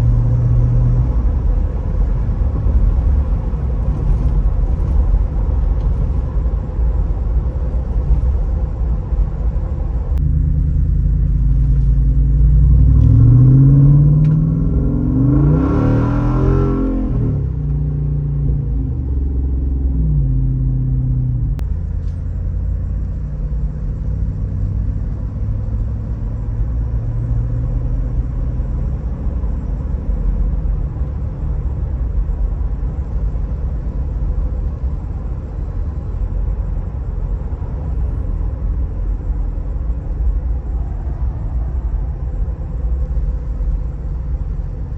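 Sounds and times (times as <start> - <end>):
engine rumbling and accelerating: 0.0 - 44.9.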